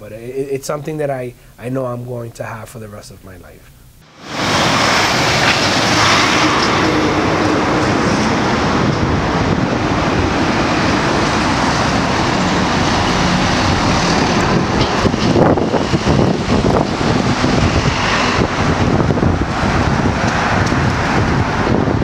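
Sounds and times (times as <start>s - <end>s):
road traffic passing: 4.0s - 22.0s.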